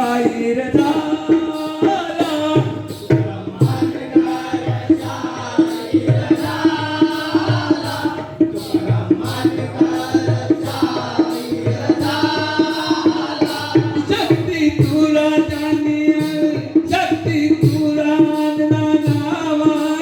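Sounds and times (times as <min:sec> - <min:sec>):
quick drum beat: 0:00.0 - 0:20.0
small percussion: 0:00.0 - 0:20.0
voices singing folk song: 0:00.0 - 0:20.0.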